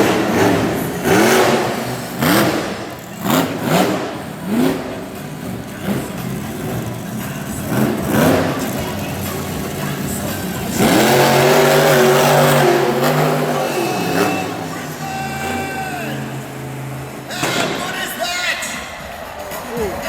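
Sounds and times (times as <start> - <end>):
monster truck engine revving: 0.0 - 19.4.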